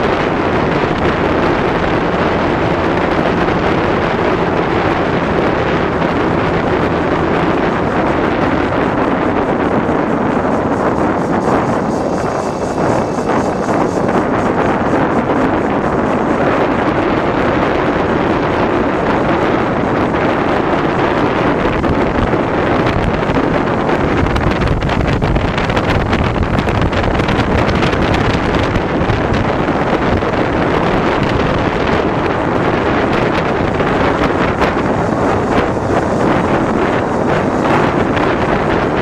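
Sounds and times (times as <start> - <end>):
motorcycle running: 0.0 - 39.0
road noise: 0.0 - 39.0
wind buffeting microphone: 0.0 - 39.0.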